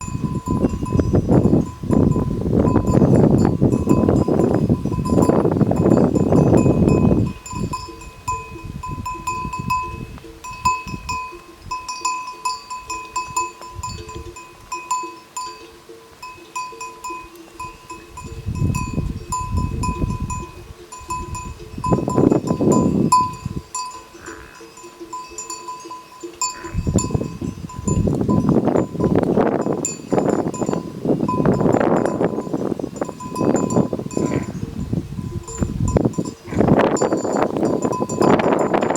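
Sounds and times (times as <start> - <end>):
animal bells clanking: 0.0 - 38.9.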